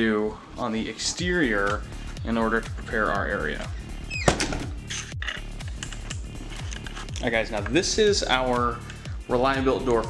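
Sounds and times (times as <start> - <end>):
background music with steady beat: 0.4 - 10.0.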